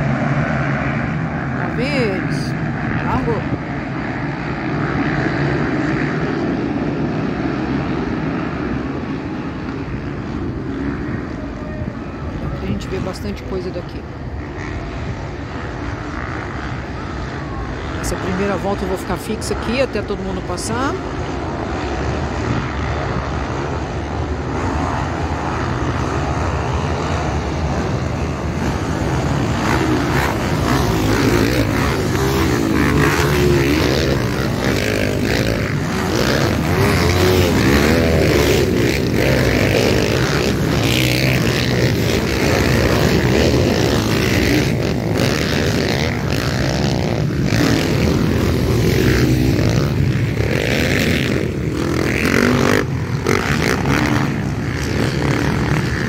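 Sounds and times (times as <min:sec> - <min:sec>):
motocross engines revving: 0:00.0 - 0:11.4, 0:12.0 - 0:56.0.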